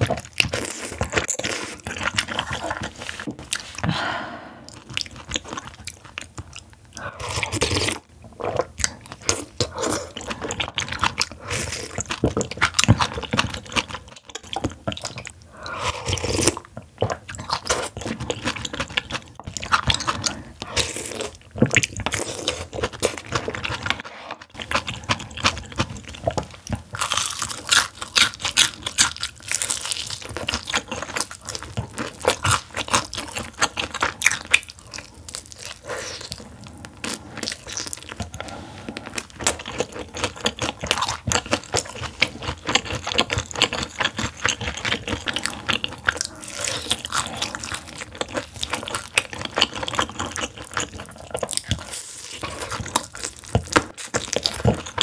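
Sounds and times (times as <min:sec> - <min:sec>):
crunching and chewing fried chicken: 0:00.0 - 0:03.8, 0:04.7 - 0:55.0.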